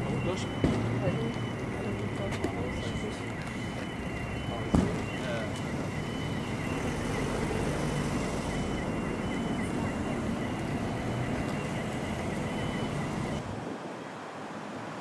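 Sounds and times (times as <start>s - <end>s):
high warbling tone: 0.0s - 13.4s
wind noise on microphone: 0.5s - 15.0s.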